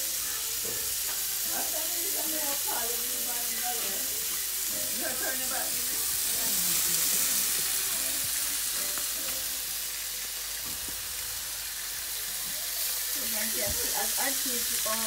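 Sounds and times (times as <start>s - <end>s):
bacon sizzling in a frying pan: 0.0s - 15.0s.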